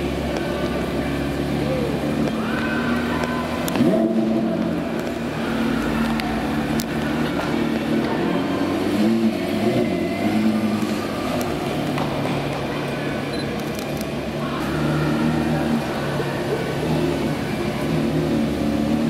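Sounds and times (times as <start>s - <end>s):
car engine running at low revs: 0.0s - 19.0s.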